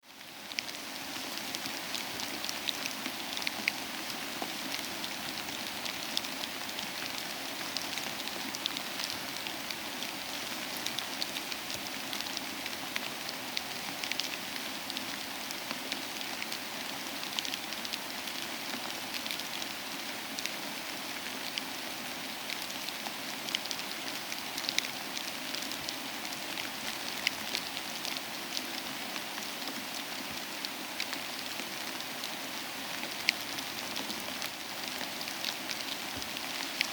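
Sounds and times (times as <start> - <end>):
soft rain falling: 0.0 - 36.9.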